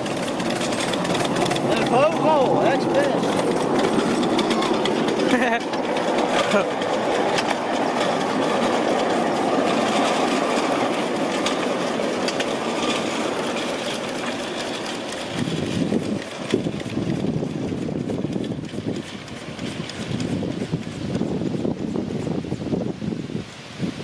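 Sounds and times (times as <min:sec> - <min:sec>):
miniature steam train running: 0:00.0 - 0:24.0
wind buffeting microphone: 0:00.0 - 0:24.0.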